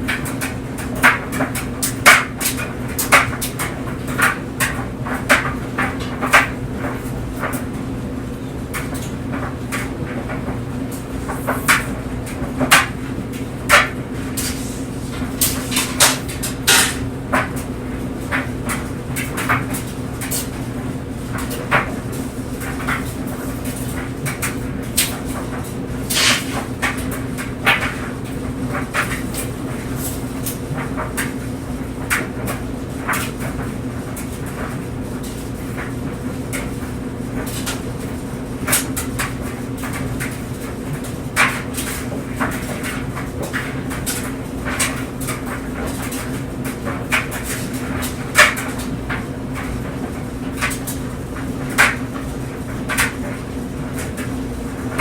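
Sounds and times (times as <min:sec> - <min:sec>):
clothes dryer humming: 0:00.0 - 0:55.0.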